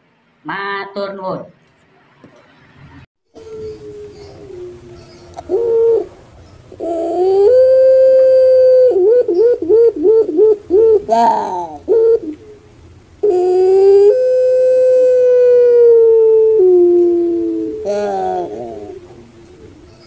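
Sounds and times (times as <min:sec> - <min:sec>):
dove cooing: 0:03.4 - 0:20.0.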